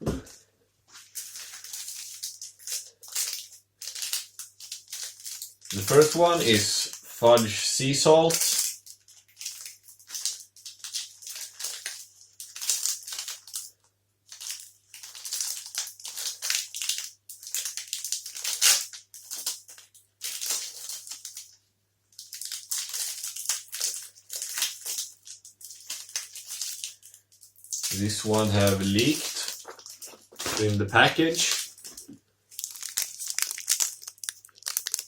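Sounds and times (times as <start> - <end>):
plastic wrapper crinkling: 0.9 - 35.0.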